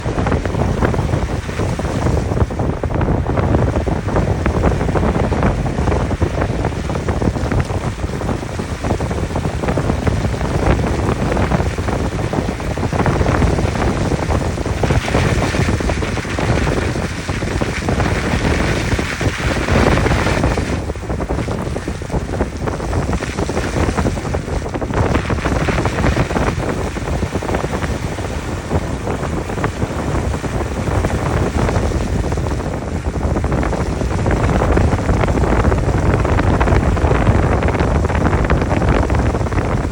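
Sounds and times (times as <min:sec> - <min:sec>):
tyre and road noise: 0:00.0 - 0:39.9
wind: 0:00.0 - 0:39.9.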